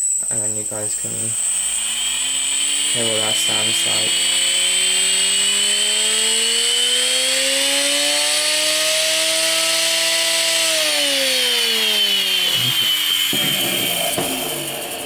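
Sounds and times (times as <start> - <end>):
high-pitched motor whine: 0.0 - 15.0.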